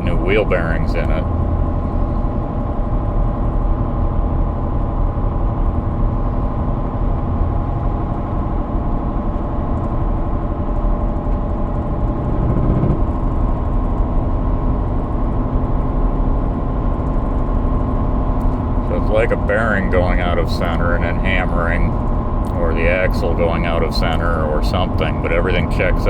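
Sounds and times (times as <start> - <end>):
pickup truck engine droning: 0.0 - 26.0.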